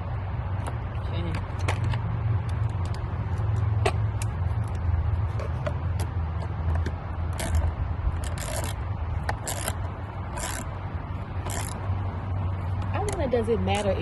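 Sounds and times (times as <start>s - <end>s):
hose clamp scraping turns: 0.6s - 14.0s.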